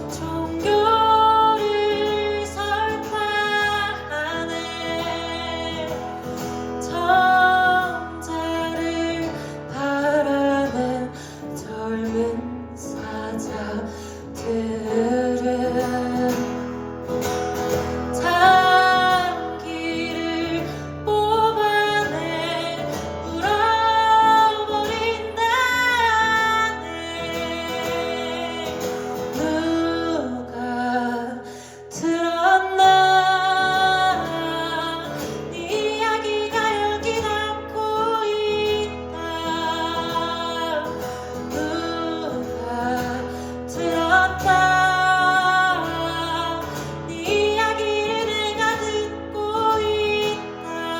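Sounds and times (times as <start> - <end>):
guitar accompaniment: 0.0 - 50.9
woman singing: 0.0 - 50.9.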